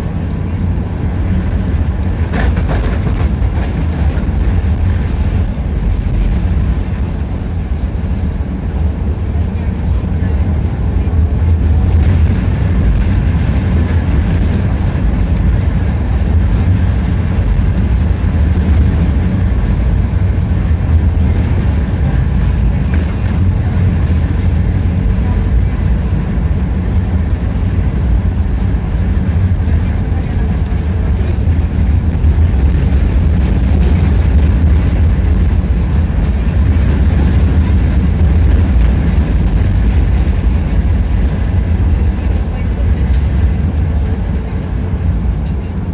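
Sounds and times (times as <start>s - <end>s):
tram wheels rumbling on rails: 0.0s - 45.9s.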